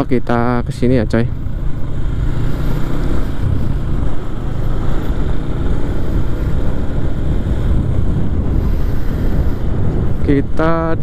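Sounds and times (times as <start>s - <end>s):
wind rumble on microphone: 0.0s - 11.0s
motorcycle engine running: 0.2s - 10.9s.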